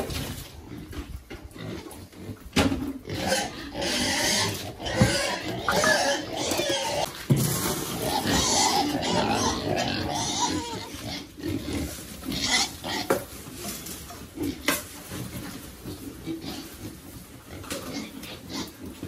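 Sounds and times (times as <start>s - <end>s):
pigs grunting and squealing: 0.0s - 13.3s, 14.2s - 19.0s.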